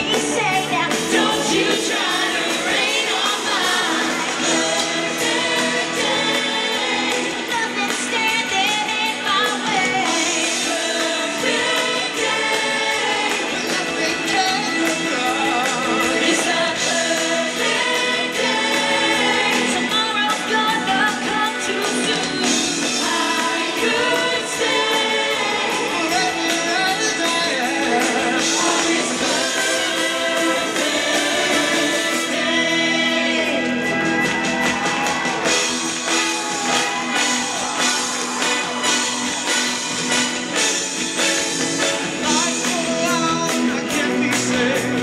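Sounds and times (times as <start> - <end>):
group of voices singing: 0.0 - 45.0
pop music: 0.0 - 45.0.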